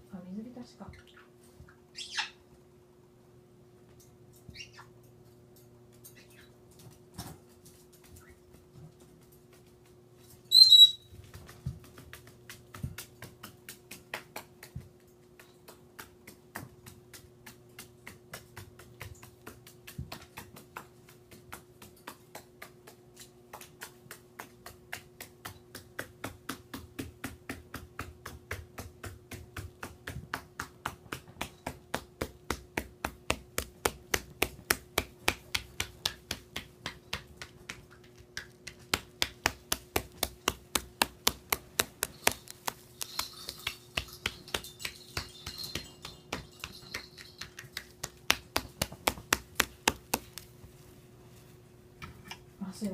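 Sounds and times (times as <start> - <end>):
parrot claws clicking on hard floor: 5.2 - 50.6.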